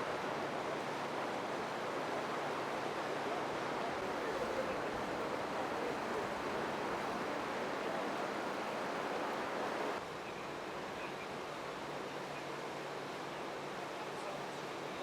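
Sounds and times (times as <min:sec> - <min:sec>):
rushing floodwater: 0:00.0 - 0:15.0.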